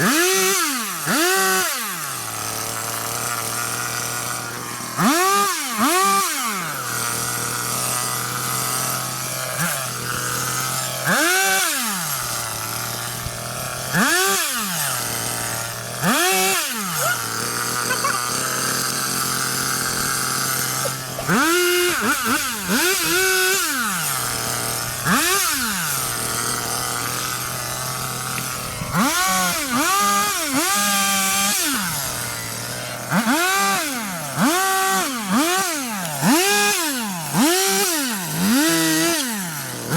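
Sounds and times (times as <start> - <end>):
chainsaw idling: 0.0 - 39.9
chainsaw revving and cutting: 0.0 - 39.9.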